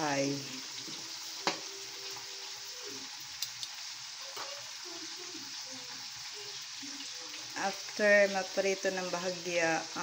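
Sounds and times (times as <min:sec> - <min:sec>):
meat and potato sizzling in oil: 0:00.0 - 0:10.0.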